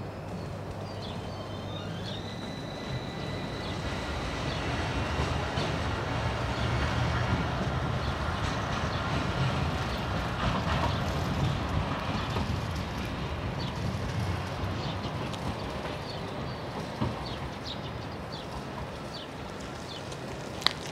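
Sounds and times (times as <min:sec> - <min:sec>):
tram wheels rumbling on rails: 0:00.0 - 0:20.9.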